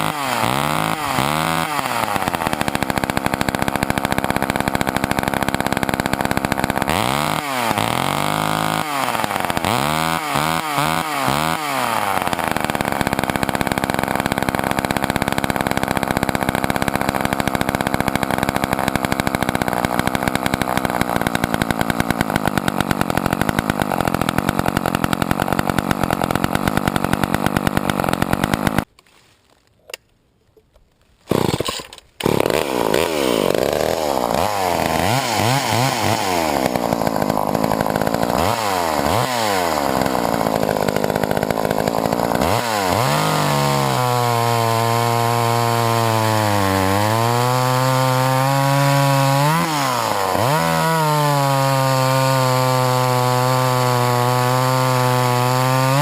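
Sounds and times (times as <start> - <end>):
chainsaw revving and cutting wood: 0.0 - 28.9, 31.3 - 56.0.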